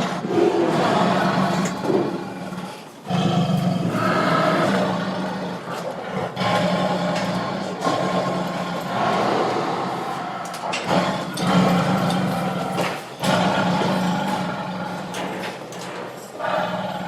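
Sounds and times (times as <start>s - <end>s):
tiger growling and roaring: 0.0s - 17.0s.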